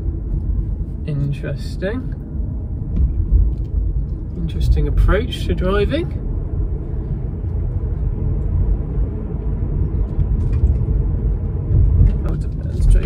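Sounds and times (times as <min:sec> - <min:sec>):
tyre road noise in car: 0:00.0 - 0:13.0.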